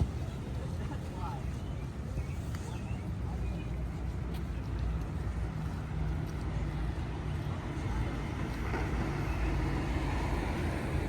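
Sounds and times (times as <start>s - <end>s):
city traffic rumble: 0.0s - 11.0s
faint voices of passers-by: 0.0s - 11.0s.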